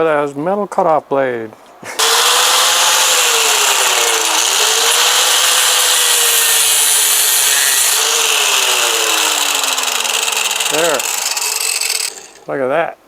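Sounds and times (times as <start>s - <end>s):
angle grinder cutting metal: 2.0s - 12.5s.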